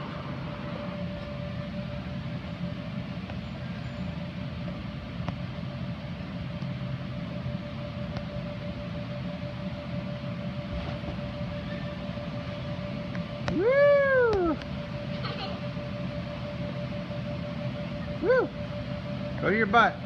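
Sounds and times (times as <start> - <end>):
ventilation units humming and whining: 0.0 - 20.0.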